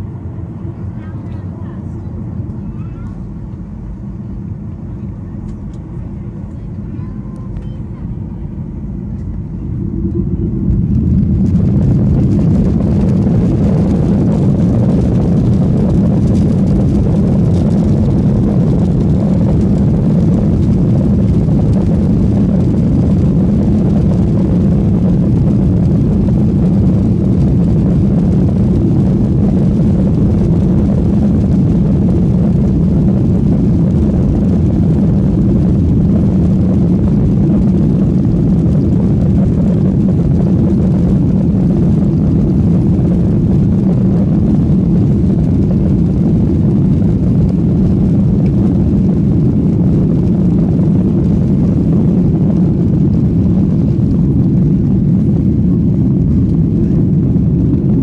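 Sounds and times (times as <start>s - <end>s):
jet engines spooling up: 7.2s - 58.0s.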